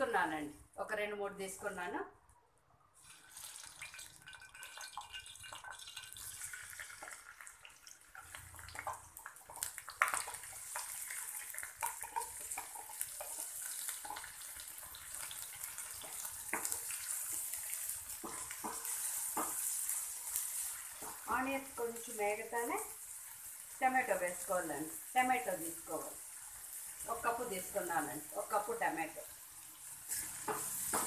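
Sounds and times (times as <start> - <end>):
onions sizzling in hot oil: 3.0 - 31.0.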